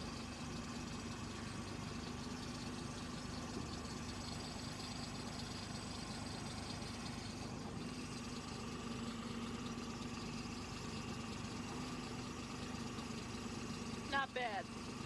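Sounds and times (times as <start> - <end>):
tractor engine idling low: 0.0 - 15.0.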